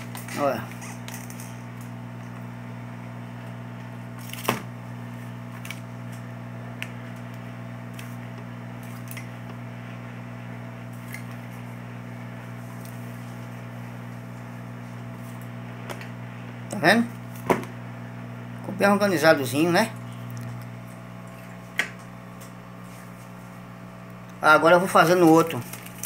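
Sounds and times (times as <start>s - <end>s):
heat gun fan humming: 0.0s - 26.0s.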